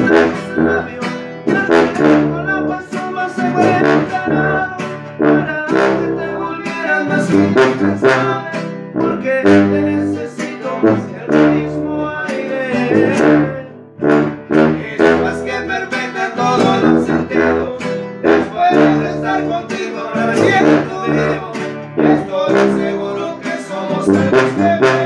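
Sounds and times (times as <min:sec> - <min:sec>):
acoustic guitars strummed: 0:00.0 - 0:25.0
sousaphone bass line: 0:00.0 - 0:25.0.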